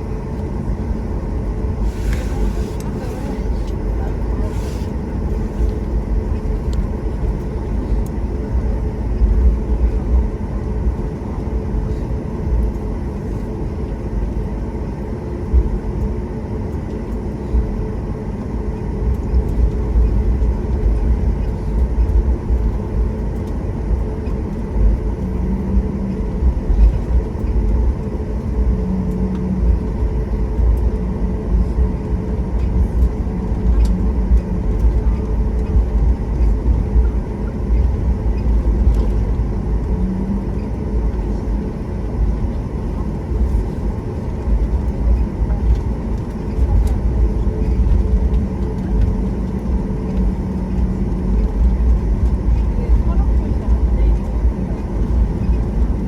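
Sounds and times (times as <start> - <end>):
constant hum: 0.0 - 56.0
jet engines idling: 0.0 - 56.0.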